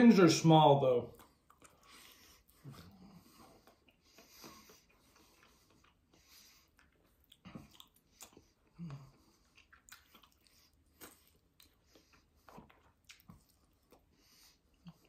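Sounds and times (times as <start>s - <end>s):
faint chewing: 1.0s - 15.0s.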